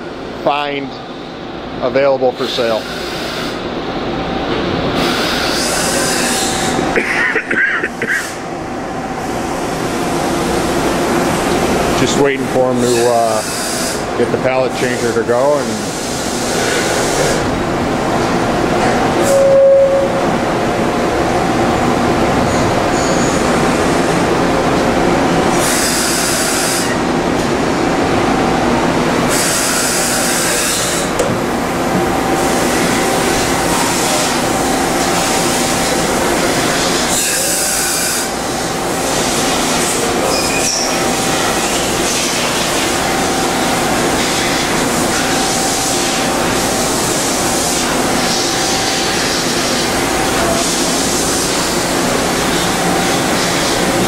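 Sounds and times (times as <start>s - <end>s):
machine mechanical hum: 0.0s - 54.0s.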